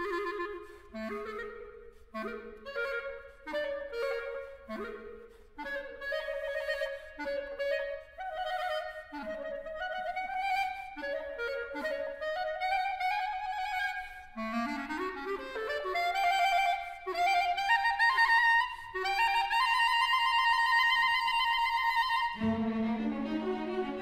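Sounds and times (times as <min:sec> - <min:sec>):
solo clarinet: 0:00.0 - 0:24.0.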